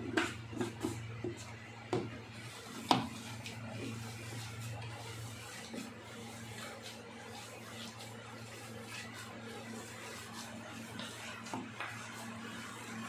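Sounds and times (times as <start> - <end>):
meat kneaded by hand: 0.0 - 13.0.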